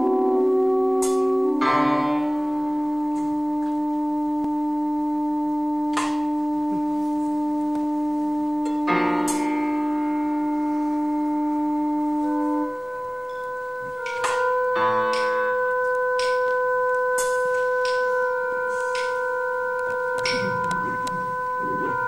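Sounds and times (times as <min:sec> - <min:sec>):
drone chord of held tones: 0:00.0 - 0:22.0.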